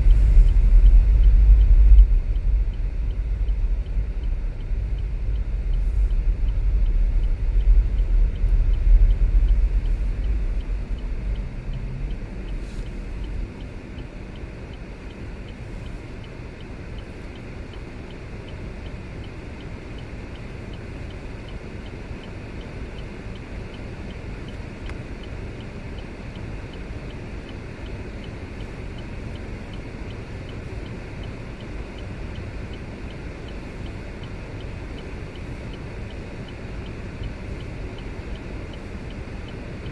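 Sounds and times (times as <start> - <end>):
vehicle tyres and engine rumble: 0.0 - 39.9.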